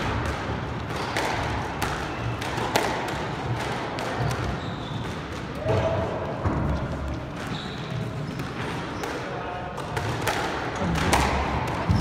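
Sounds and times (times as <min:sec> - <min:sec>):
squash ball knocks: 0:00.0 - 0:07.5, 0:09.8 - 0:12.0.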